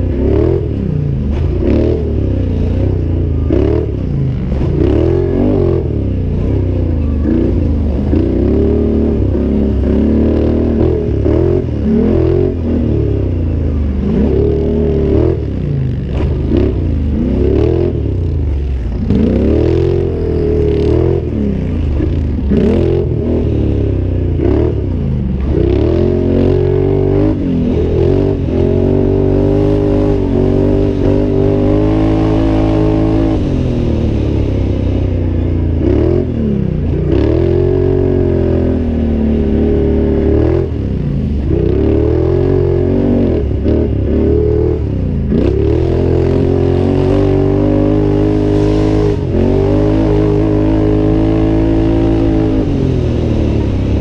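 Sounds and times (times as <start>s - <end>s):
atv engine racing: 0.0s - 54.0s.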